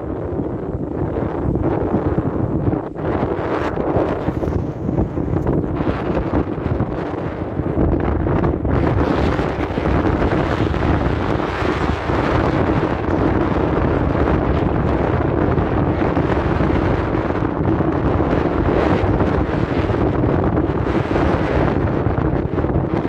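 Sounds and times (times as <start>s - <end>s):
low hum: 0.0s - 21.0s
wind buffeting microphone: 0.0s - 23.0s.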